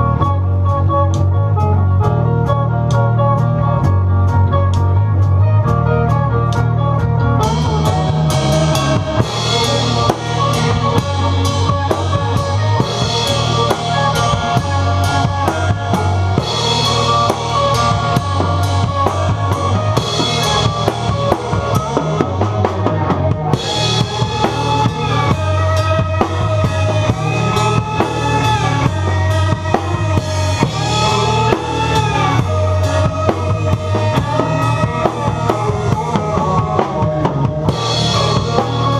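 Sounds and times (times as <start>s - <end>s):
drum kit beat: 0.0s - 38.9s
rock band playing: 0.0s - 38.9s.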